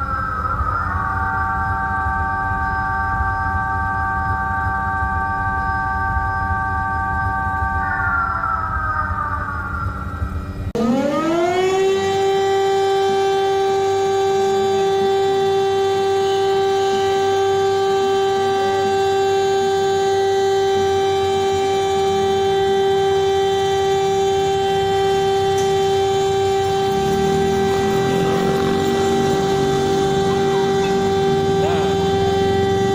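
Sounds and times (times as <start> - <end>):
civil defense siren winding up: 0.0 - 32.9.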